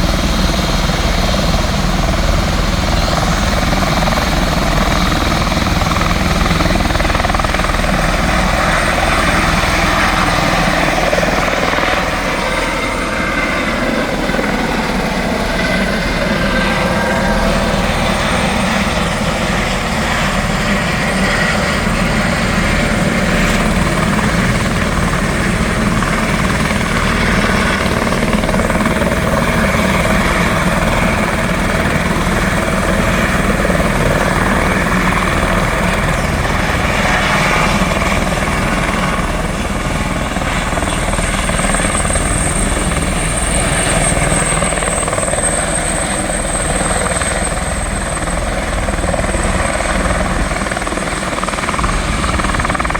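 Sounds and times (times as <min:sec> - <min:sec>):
helicopter rotor beat: 0:00.0 - 0:52.9.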